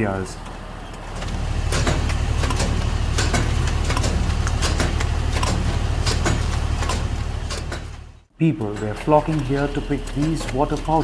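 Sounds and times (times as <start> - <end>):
short clicks and knocks: 0.4 - 10.9.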